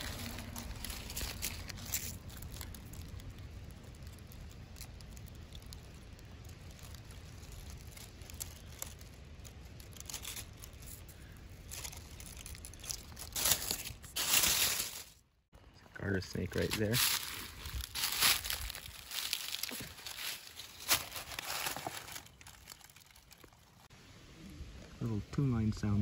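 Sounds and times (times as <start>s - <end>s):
dry leaves rustling and crackling: 0.0s - 15.2s, 16.1s - 23.9s
steady low rumble: 0.0s - 22.8s.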